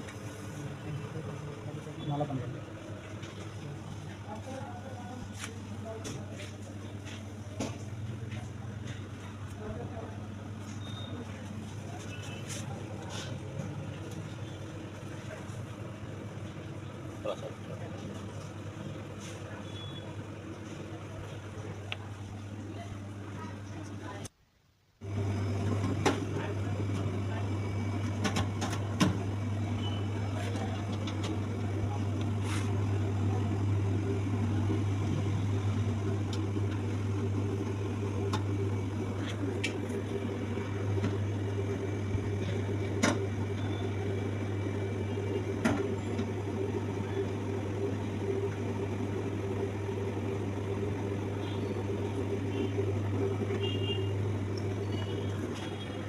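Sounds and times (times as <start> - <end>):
refrigerator compressor humming: 0.0 - 24.3, 25.0 - 56.0.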